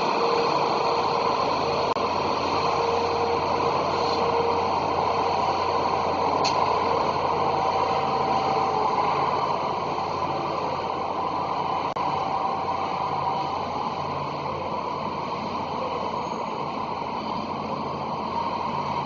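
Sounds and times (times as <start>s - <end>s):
distant diesel train engines: 0.0s - 19.0s
faint steady hums: 0.0s - 19.0s.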